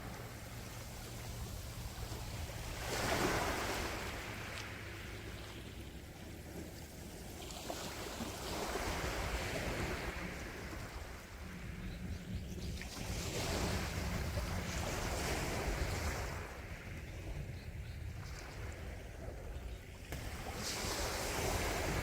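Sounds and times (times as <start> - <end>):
sea waves washing on shore: 0.0 - 11.8, 12.7 - 17.6, 18.2 - 22.0.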